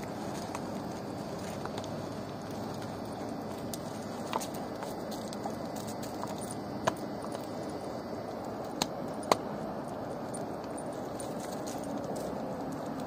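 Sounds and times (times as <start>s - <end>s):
background hiss: 0.0s - 13.0s
dog gnawing bone: 0.0s - 13.0s.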